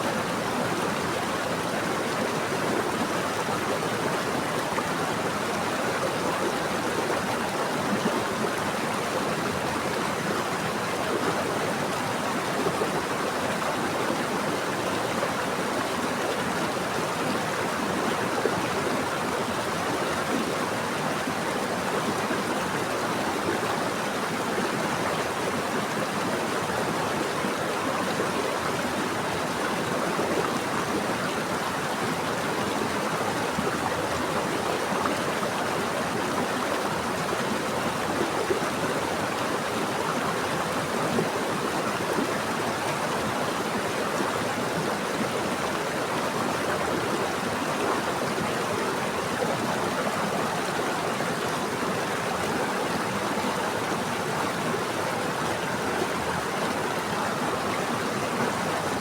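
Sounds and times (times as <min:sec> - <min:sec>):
stream water rushing and gurgling: 0:00.0 - 0:59.0.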